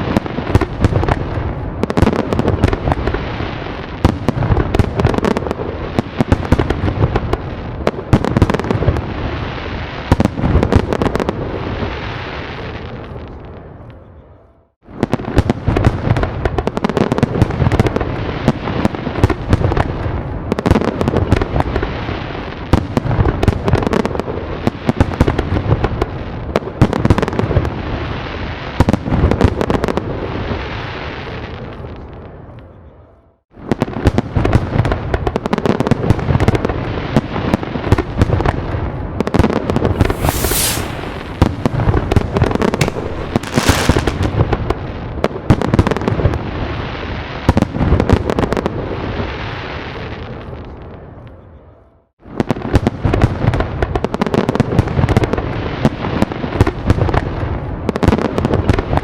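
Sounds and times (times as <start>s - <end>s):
fireworks bangs and crackles: 0.0s - 14.0s, 14.8s - 32.6s, 33.6s - 51.3s, 52.2s - 59.0s.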